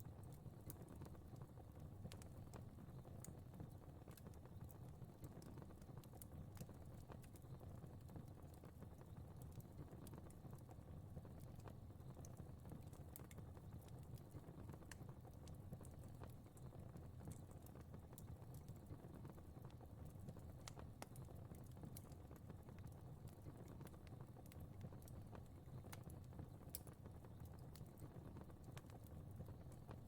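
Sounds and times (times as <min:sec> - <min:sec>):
fireplace fire crackling: 0:00.0 - 0:30.0.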